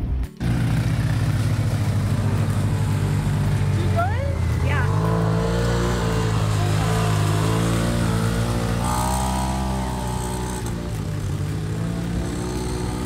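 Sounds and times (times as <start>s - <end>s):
off-road vehicle engines running: 0.0s - 13.0s.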